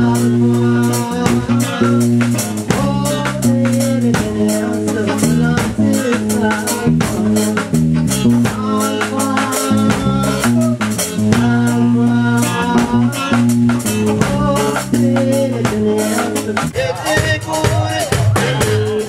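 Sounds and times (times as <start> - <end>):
drum beat: 0.0 - 19.0
held bass line: 0.0 - 19.0
person singing: 0.0 - 19.0.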